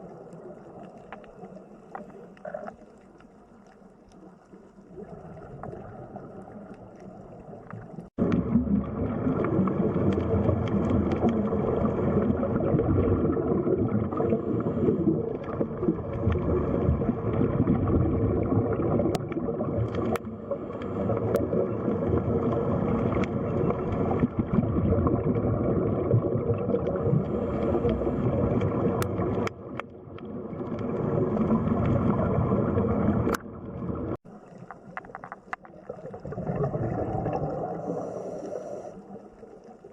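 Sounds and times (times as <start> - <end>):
rushing gurgling water: 0.0 - 39.9.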